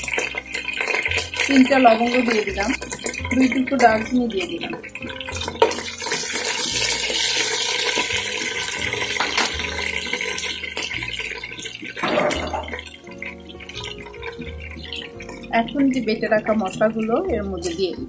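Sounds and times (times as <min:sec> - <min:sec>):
spices sizzling in oil: 0:00.0 - 0:18.0.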